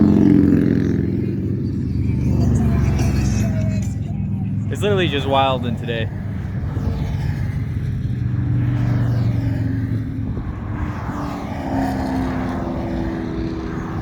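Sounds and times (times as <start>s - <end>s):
car engine running steadily: 0.0s - 14.0s
cars driving past: 0.0s - 14.0s.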